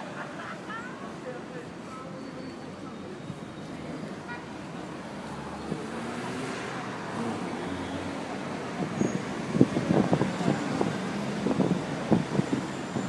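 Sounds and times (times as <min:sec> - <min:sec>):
road traffic inside a car: 0:00.0 - 0:13.0.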